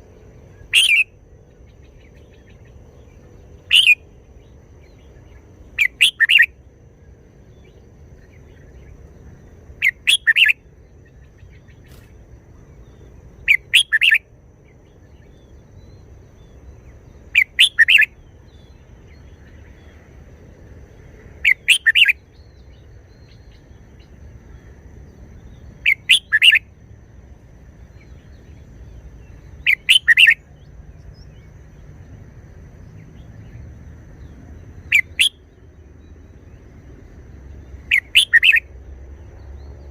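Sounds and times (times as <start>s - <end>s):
bulbul singing: 0.0s - 19.9s, 21.4s - 24.2s, 25.1s - 26.8s, 27.8s - 31.9s, 32.7s - 36.6s, 37.6s - 38.8s.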